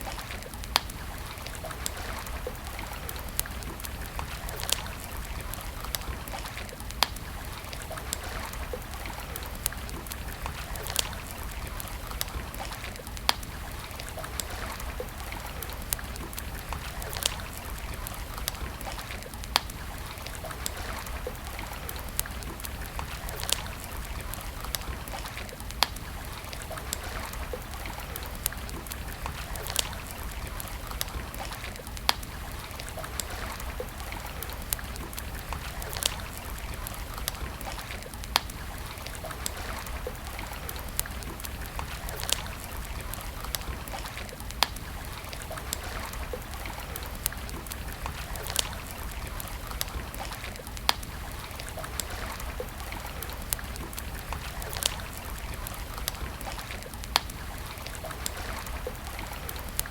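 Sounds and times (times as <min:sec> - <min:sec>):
campfire crackling and popping: 0:00.0 - 0:59.9
flowing water: 0:00.0 - 0:59.9.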